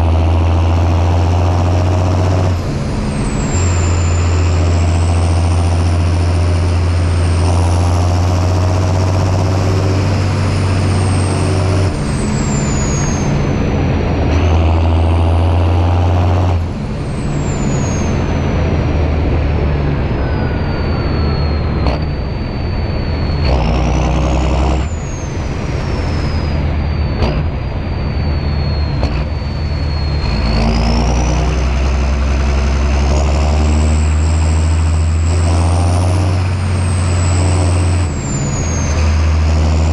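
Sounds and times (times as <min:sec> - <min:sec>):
high engine whine: 0:00.0 - 0:39.9
tractor diesel engine under load: 0:00.0 - 0:39.9.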